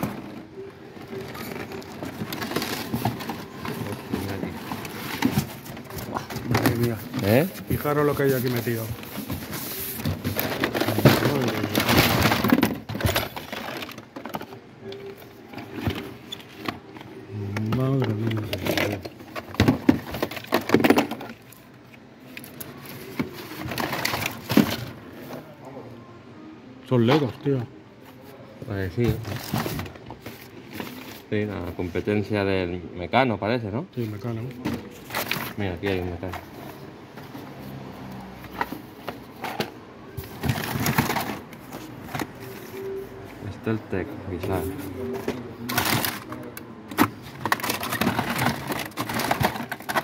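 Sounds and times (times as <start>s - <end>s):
plastic cases clattering: 0.0s - 25.6s, 28.7s - 32.0s, 34.0s - 50.0s
boxes and blister packs handled: 0.0s - 25.7s, 27.0s - 32.3s, 33.9s - 50.0s
crackling and rustling packaging: 0.0s - 50.0s.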